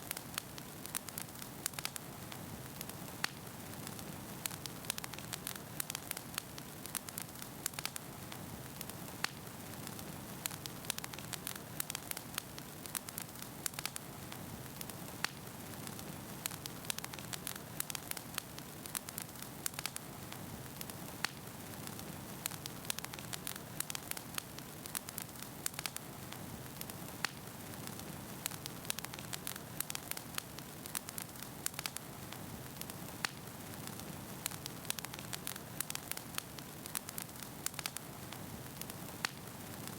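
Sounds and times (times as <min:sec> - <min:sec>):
burning logs crackling and popping: 0:00.0 - 0:39.9
low hiss of flames: 0:00.0 - 0:39.9.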